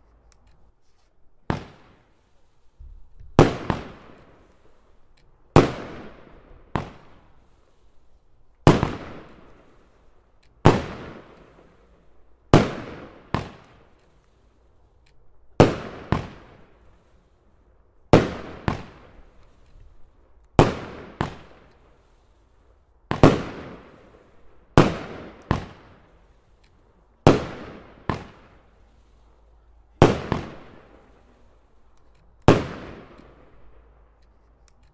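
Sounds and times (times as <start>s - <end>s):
fireworks bursting with loud bangs: 1.4s - 8.0s, 8.6s - 14.4s, 15.6s - 17.4s, 18.1s - 22.4s, 23.1s - 29.3s, 29.9s - 34.1s.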